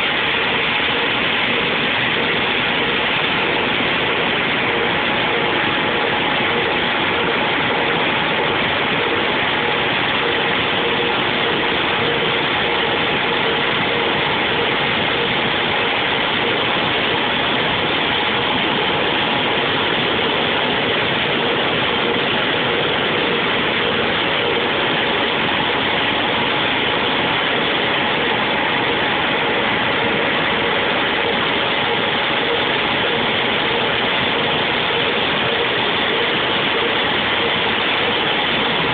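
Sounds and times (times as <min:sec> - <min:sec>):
machinery running: 0:00.0 - 0:38.9.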